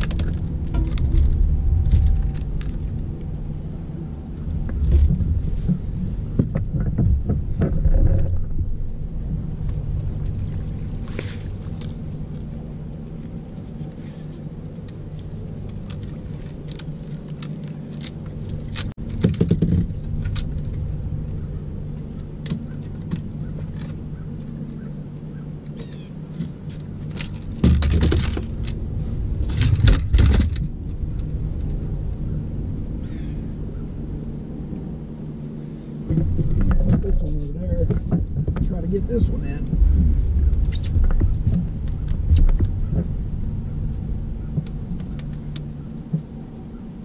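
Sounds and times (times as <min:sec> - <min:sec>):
gear clicking and rattling: 0:00.0 - 0:35.2, 0:35.9 - 0:46.4
outboard motor running: 0:00.0 - 0:47.0.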